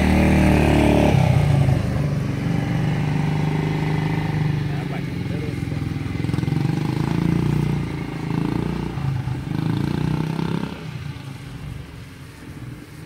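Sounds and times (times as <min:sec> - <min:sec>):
quad bike engine running: 0:00.0 - 0:10.8.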